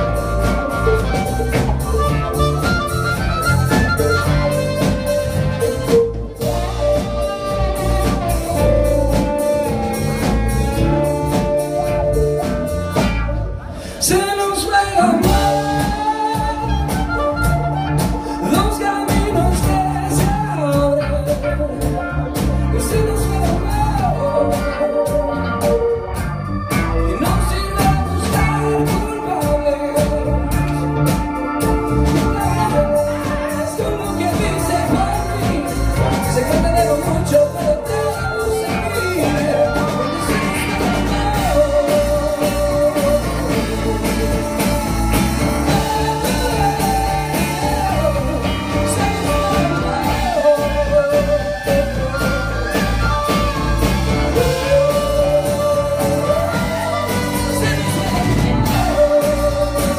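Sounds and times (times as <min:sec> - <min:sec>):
drums beating: 0:00.0 - 0:59.9
live band playing: 0:00.0 - 0:59.9
person singing: 0:00.0 - 0:59.9.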